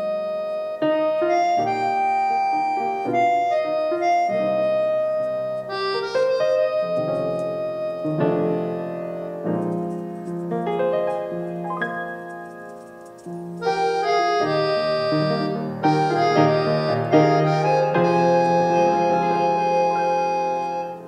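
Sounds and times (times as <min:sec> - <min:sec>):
piano background music: 0:00.0 - 0:21.0.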